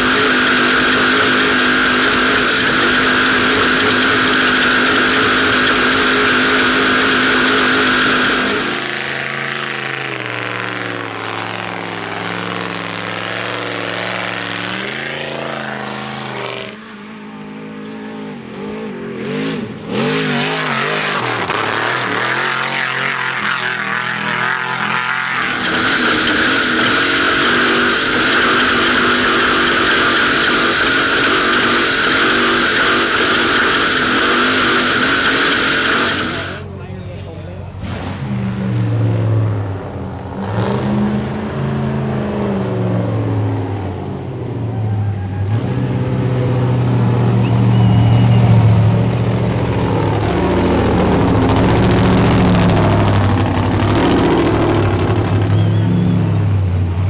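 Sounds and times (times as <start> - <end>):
rush of driving noise: 0.0 - 57.0
truck engine revving: 0.0 - 57.0.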